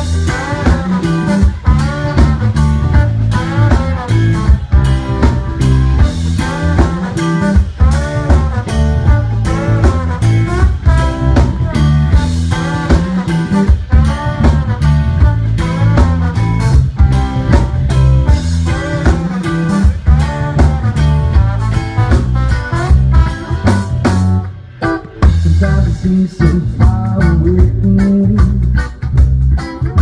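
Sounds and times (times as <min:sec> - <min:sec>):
bass guitar: 0:00.0 - 0:30.0
drums: 0:00.0 - 0:30.0
electric guitar: 0:00.0 - 0:30.0.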